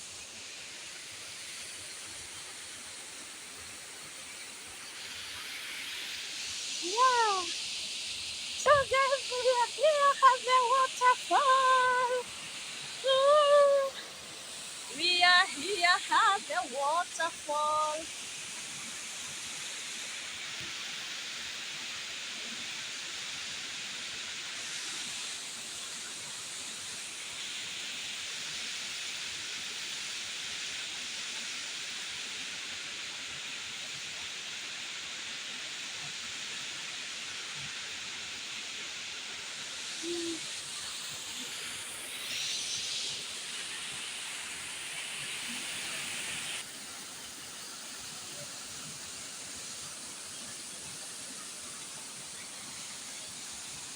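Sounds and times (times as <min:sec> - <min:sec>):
waterfall rushing: 0:00.4 - 0:28.2, 0:29.0 - 0:53.9.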